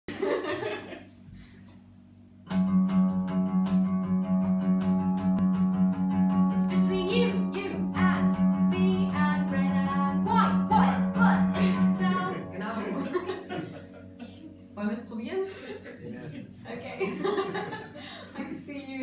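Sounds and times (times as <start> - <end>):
acoustic guitar strumming: 2.4 - 17.8.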